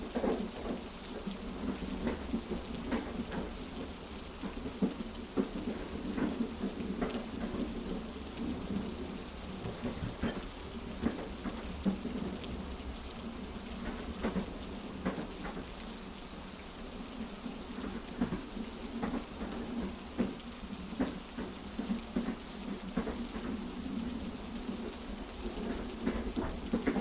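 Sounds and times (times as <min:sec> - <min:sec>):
heavy rain: 0:00.0 - 0:27.0
train carriage rumbling on tracks: 0:00.0 - 0:27.0.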